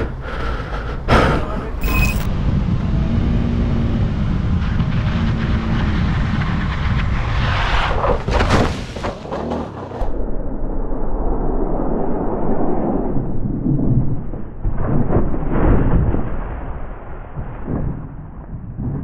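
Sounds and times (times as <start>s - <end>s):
wind rumble: 0.0s - 19.0s.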